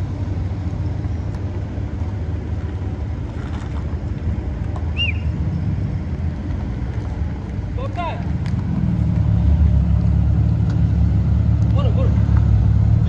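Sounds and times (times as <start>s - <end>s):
car engines low rumble: 0.0s - 13.0s
car rolling past: 0.0s - 13.0s.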